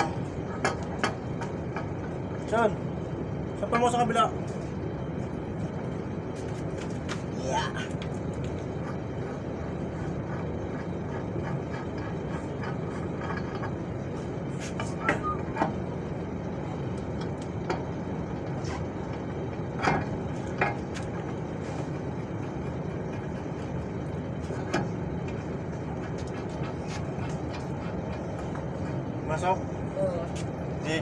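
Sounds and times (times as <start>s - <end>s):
low background rumble: 0.0s - 31.0s.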